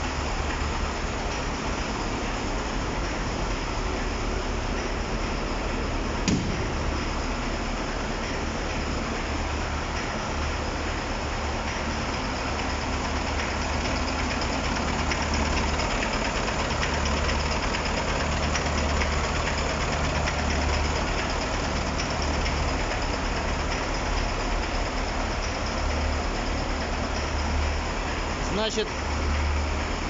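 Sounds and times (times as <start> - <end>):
truck diesel engine idling: 0.0 - 30.0.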